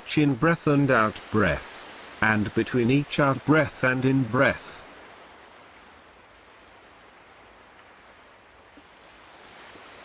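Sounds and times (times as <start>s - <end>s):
faint ocean waves on shore: 0.0s - 10.0s.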